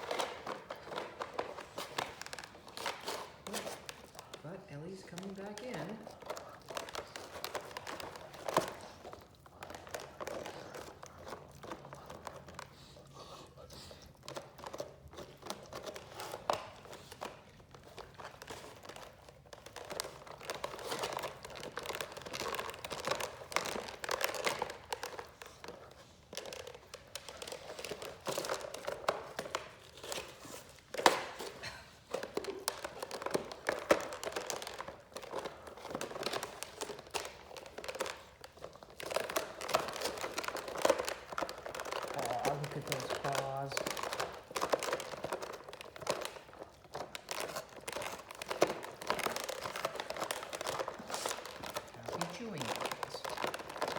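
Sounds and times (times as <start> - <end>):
dogs gnawing on bone: 0.0 - 53.9.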